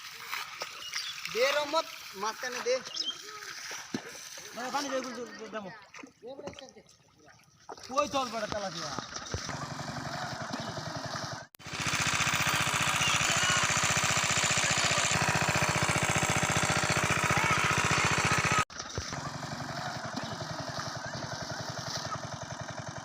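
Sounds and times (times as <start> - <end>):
small pump engine chugging: 0.0 - 6.6, 7.3 - 23.0.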